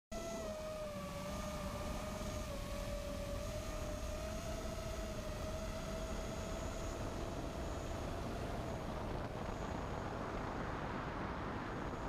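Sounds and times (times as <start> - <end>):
constant rushing noise: 0.2 - 12.0
drone motors whining: 0.2 - 12.0.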